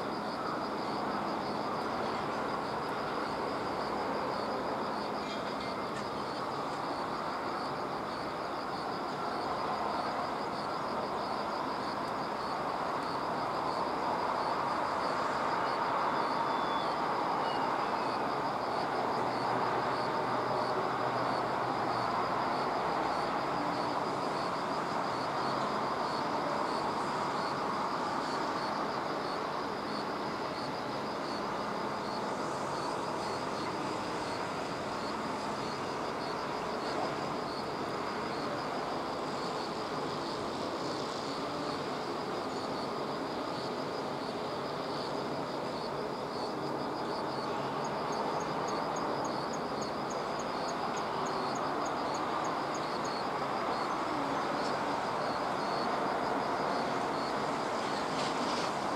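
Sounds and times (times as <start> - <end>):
insects chirping: 0.0 - 58.9.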